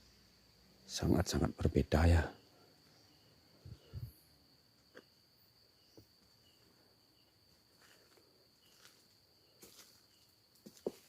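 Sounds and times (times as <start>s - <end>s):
cricket trill: 0.0s - 11.0s.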